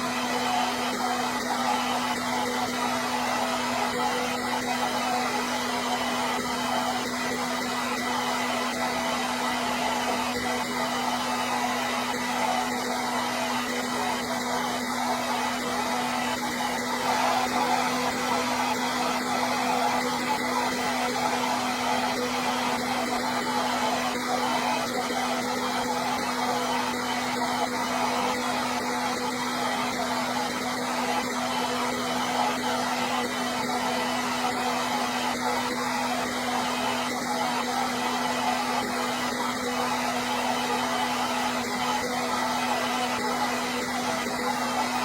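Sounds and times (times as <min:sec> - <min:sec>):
hair dryer running: 0:00.0 - 0:45.0.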